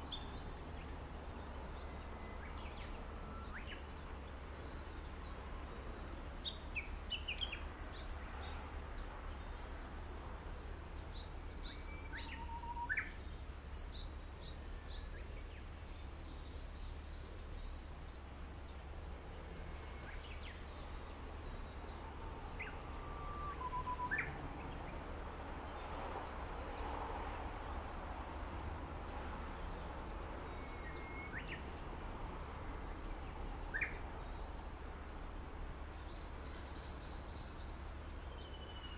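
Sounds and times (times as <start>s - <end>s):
small birds chirping: 0.0s - 26.9s, 32.6s - 35.2s, 35.8s - 38.9s
steady high hiss: 0.0s - 38.9s.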